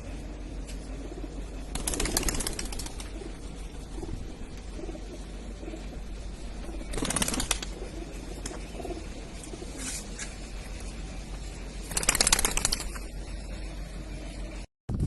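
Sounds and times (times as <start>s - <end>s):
birds flapping wings: 1.1s - 13.4s.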